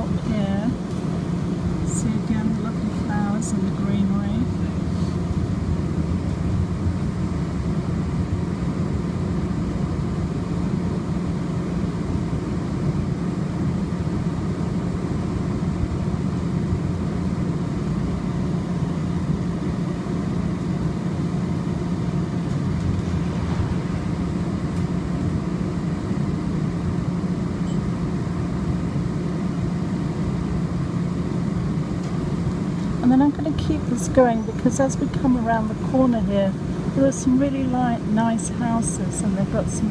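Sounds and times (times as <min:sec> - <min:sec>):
light-rail car rumbling: 0:00.0 - 0:39.9.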